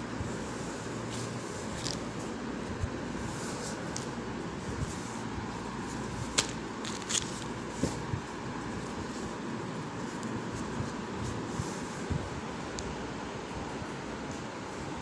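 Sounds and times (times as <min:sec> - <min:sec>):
steady background hum: 0:00.0 - 0:15.0
cloth rustling: 0:00.2 - 0:12.8.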